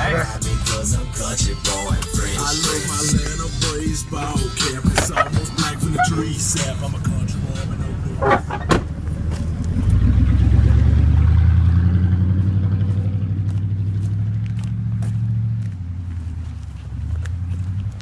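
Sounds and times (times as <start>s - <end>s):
engine pulling hard drone: 0.0s - 18.0s.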